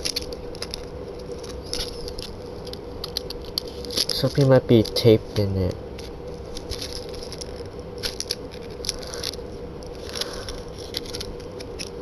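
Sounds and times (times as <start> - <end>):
packaging clicks and scrapes: 0.0 - 5.1, 6.0 - 12.0
steady hum: 0.0 - 12.0.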